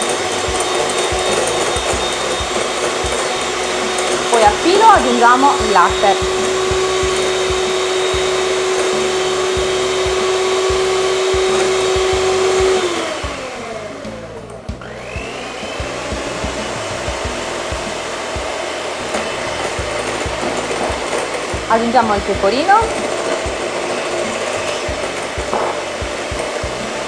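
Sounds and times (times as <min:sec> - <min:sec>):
electric hand mixer motor: 0:00.0 - 0:27.0.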